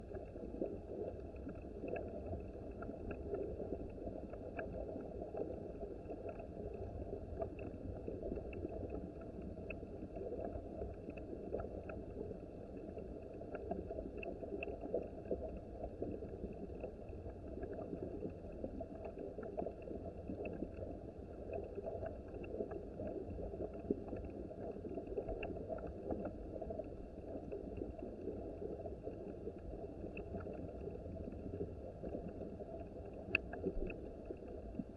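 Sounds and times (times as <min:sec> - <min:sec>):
small ticks: 0:00.1 - 0:34.9.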